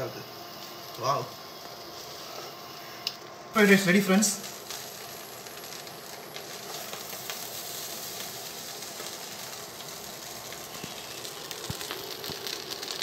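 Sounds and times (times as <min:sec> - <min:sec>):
rice sizzling in a pot: 0:00.0 - 0:13.0.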